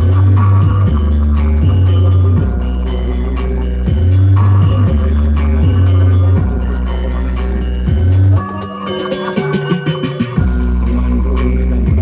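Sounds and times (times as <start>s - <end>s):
heavy bass line: 0.0s - 12.0s
loud electronic dance music: 0.0s - 12.0s.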